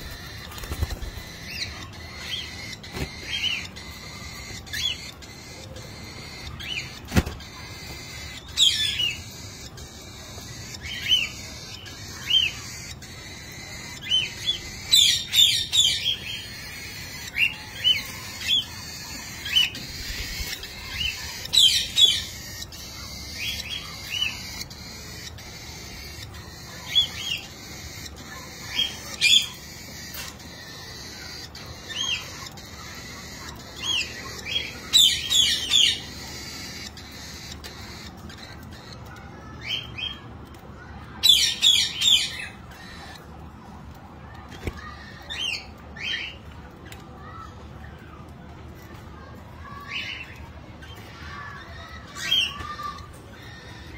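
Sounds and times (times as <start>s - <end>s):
cockatiels chirping: 0.0s - 43.4s, 44.3s - 48.3s, 48.9s - 53.9s.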